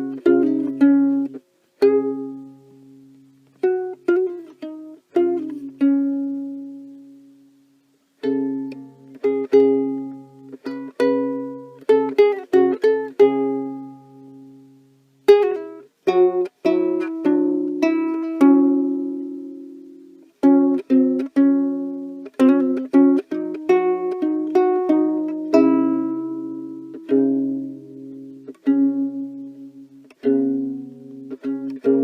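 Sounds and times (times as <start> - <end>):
solo ukulele playing: 0.0 - 32.0.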